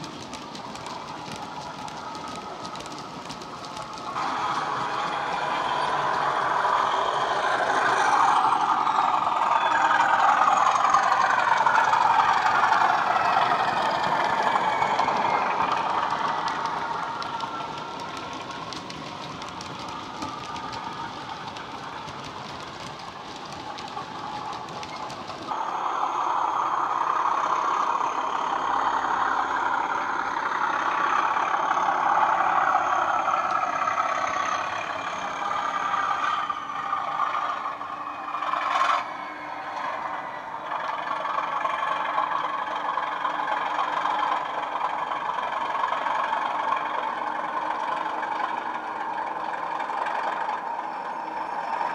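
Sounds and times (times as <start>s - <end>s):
model diesel engine sound: 0.0s - 51.9s
model wagon wheels clicking on track: 0.0s - 51.9s.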